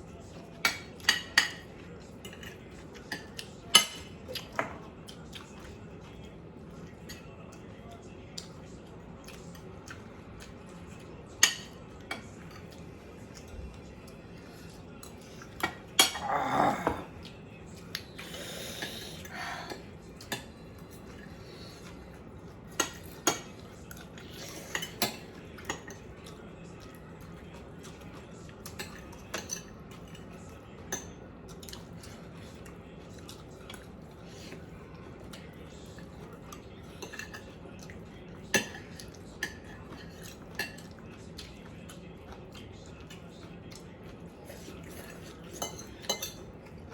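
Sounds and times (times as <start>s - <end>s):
utensils clinking on a plate: 0.2s - 46.9s.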